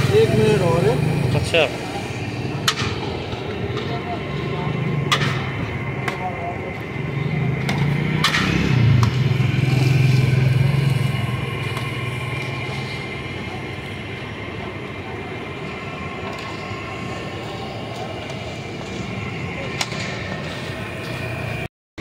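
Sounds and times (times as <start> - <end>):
vehicle engine humming: 0.0 - 21.7.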